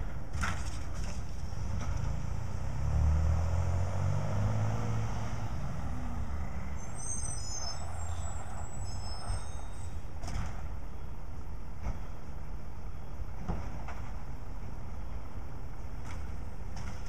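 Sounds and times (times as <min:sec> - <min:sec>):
diesel truck engine rumble: 0:00.0 - 0:17.0.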